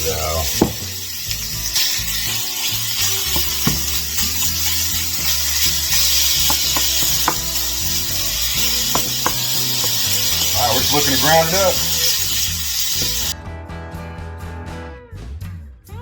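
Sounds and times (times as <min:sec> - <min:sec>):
meat sizzling in a skillet: 0:00.0 - 0:13.4
background music: 0:00.0 - 0:16.0
utensil scraping and tapping: 0:00.4 - 0:13.4.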